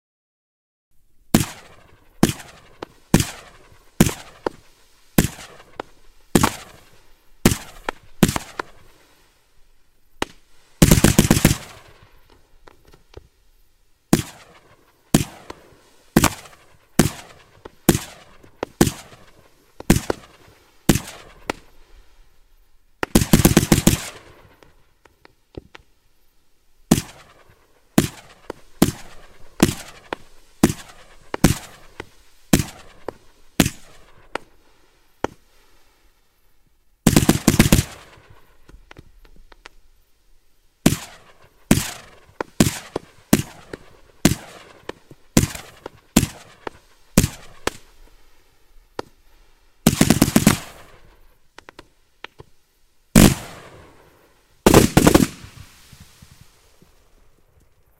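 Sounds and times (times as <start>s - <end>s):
rapid firework salvos: 1.2s - 57.9s
firework bangs: 1.3s - 13.4s, 14.1s - 25.9s, 26.8s - 35.9s, 37.0s - 39.8s, 40.8s - 52.5s, 53.1s - 57.4s.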